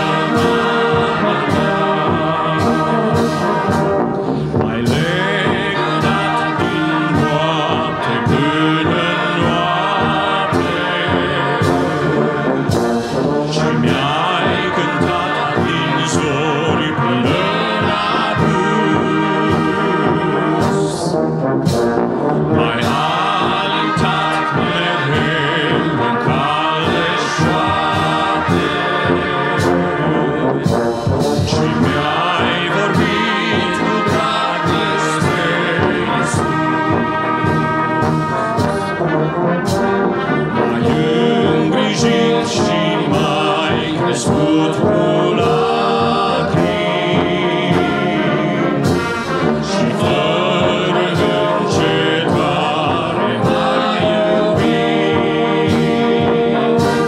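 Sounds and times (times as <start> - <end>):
brass band playing a hymn: 0.0 - 57.0.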